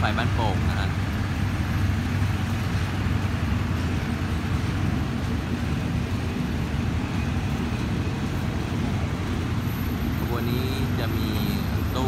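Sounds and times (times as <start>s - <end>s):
train coaches rolling past: 0.0s - 12.0s.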